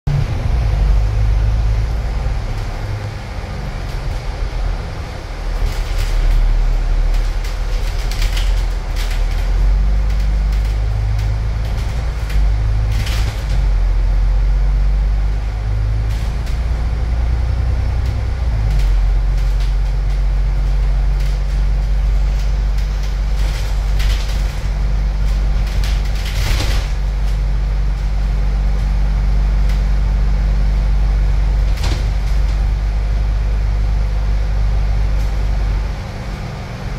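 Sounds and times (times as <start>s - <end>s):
bus diesel engine droning: 0.1s - 36.9s.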